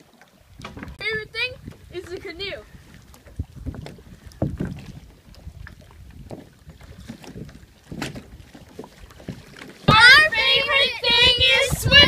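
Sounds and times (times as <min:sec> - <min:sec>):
wind rumble on microphone: 0:00.4 - 0:12.0
kayak knocking against wooden dock: 0:00.5 - 0:02.2, 0:02.9 - 0:12.0.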